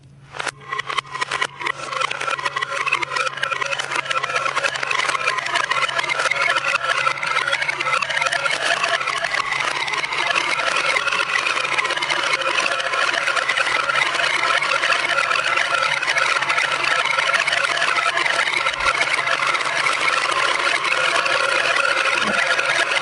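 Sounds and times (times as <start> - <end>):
marbles rattling down a track: 0.4 - 23.0.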